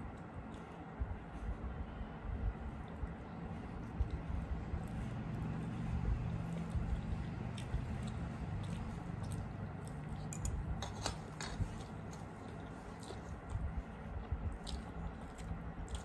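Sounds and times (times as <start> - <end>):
wet squishing of food: 2.5 - 16.0.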